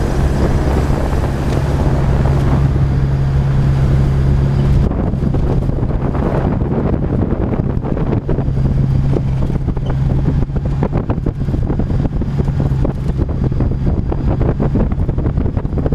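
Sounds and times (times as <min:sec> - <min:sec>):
vehicle engine droning: 0:00.0 - 0:15.9
wind buffeting microphone: 0:00.0 - 0:15.9.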